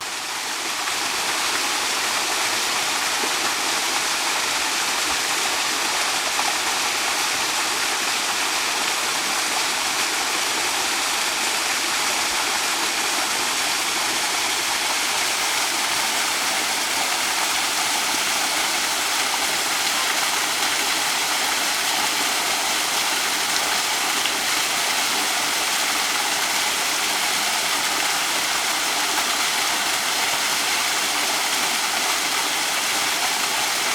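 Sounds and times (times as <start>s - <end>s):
running water flowing: 0.1s - 33.9s.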